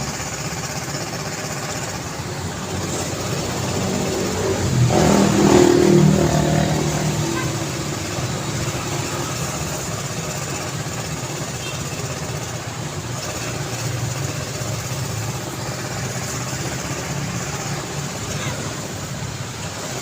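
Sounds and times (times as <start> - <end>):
road traffic engine hum: 0.0 - 20.0
tyre and road noise: 0.0 - 20.0.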